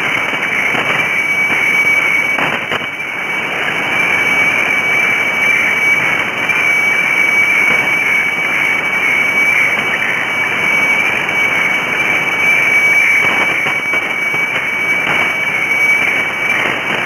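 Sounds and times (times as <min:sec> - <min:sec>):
radio hiss and static: 0:00.0 - 0:17.0
steady high radio tone: 0:00.0 - 0:17.0.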